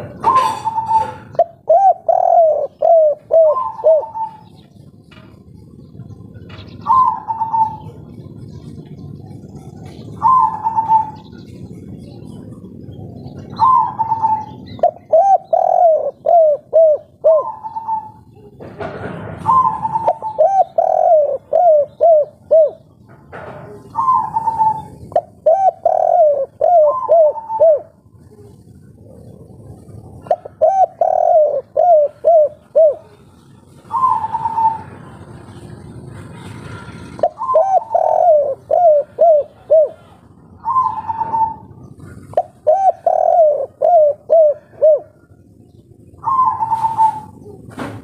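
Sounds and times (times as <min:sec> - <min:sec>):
dove cooing: 0:00.0 - 0:35.7, 0:36.4 - 0:48.0.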